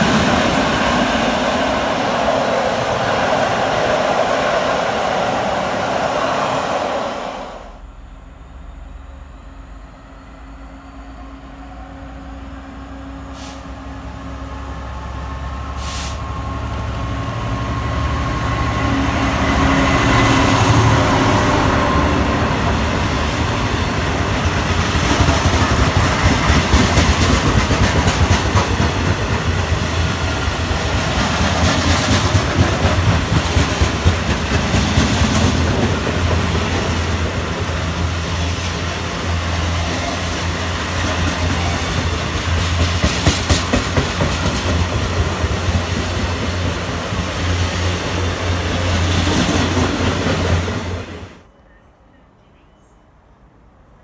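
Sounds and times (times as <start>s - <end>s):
diesel locomotive engine: 0.0s - 51.5s.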